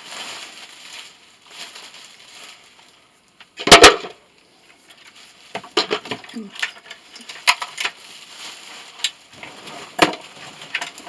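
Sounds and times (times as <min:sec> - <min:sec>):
faint rustling and handling noise: 0:00.0 - 0:11.0.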